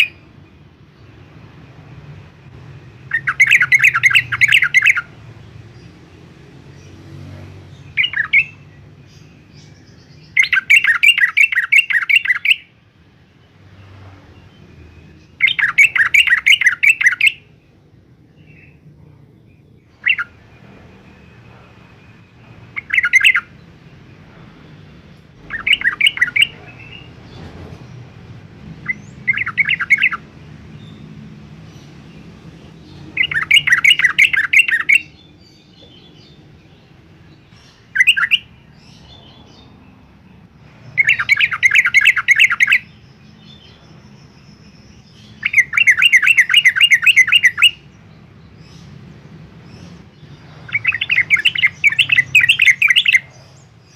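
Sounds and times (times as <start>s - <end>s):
bird singing fast repeated notes: 0.0s - 53.9s.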